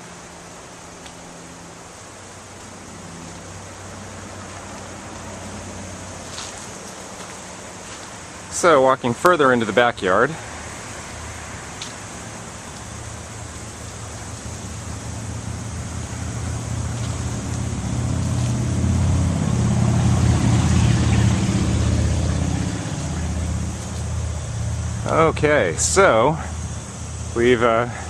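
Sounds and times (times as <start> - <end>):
road noise hiss: 0.0 - 28.0
vehicle rumble: 0.0 - 28.0.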